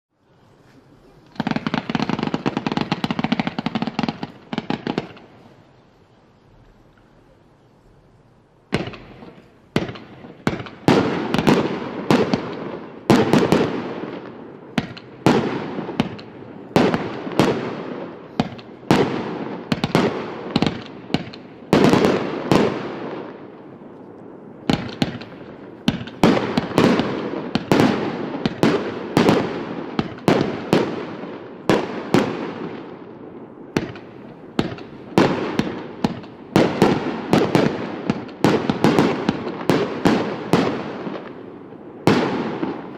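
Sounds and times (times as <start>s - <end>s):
firework bangs with hiss: 0.5s - 5.8s, 8.7s - 42.9s.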